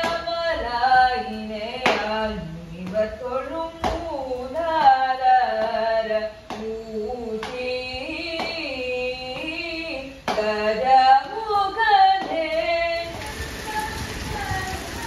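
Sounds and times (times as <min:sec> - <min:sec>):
girl singing: 0:00.0 - 0:15.0.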